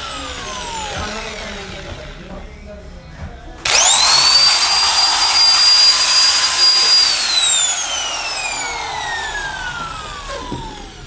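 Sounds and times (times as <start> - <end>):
impact wrench whining: 0.0 - 2.6, 3.7 - 11.0.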